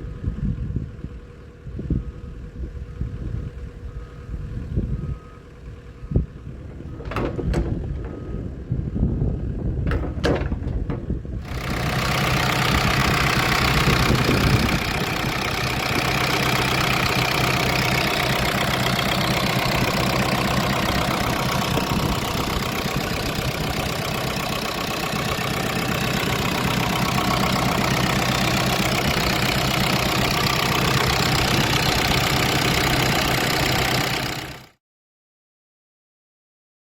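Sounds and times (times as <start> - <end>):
excavator diesel engine running: 0.0 - 34.8.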